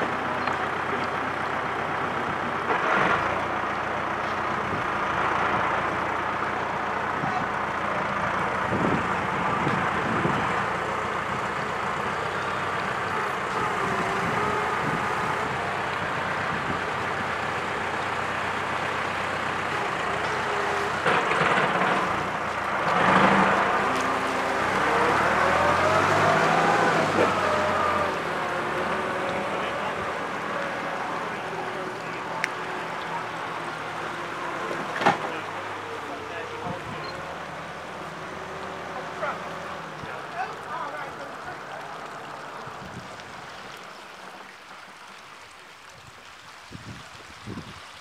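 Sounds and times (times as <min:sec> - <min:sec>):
boat engine running: 0:00.0 - 0:44.5
propeller churning water: 0:00.0 - 0:48.0.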